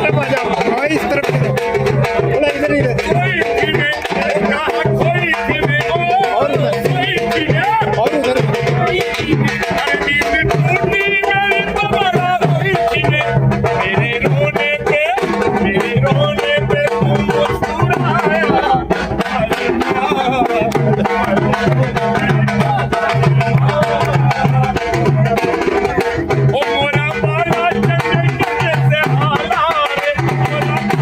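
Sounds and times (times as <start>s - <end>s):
hand drum rhythm: 0.0s - 31.0s.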